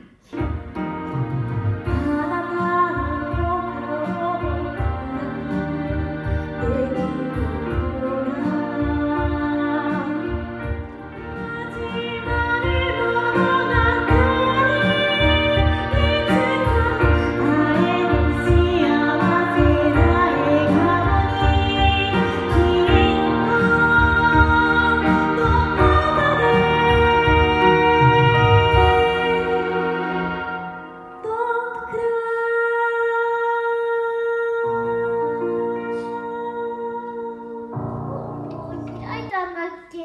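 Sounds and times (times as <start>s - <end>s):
backing music: 0.0s - 32.4s
woman singing: 1.8s - 38.3s.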